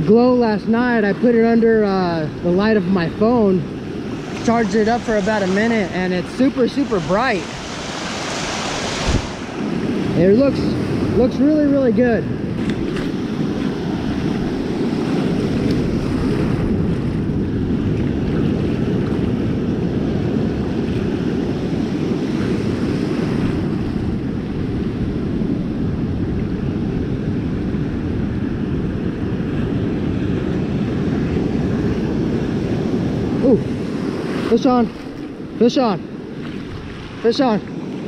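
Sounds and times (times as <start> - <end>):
ocean surf breaking: 0.0 - 38.0
wind buffeting microphone: 0.0 - 38.0.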